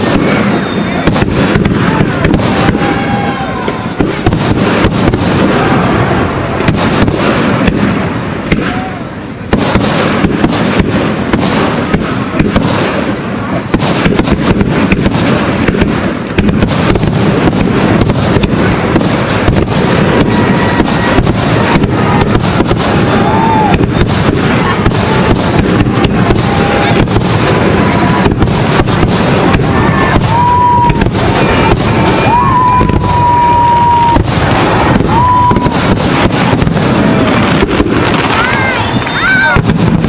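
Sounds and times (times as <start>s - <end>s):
fireworks crackling: 0.0s - 40.0s.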